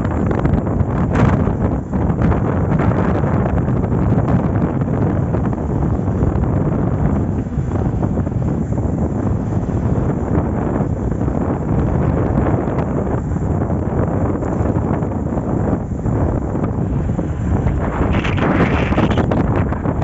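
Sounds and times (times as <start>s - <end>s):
vehicle road rumble: 0.0s - 20.0s
wind buffeting microphone: 0.0s - 20.0s.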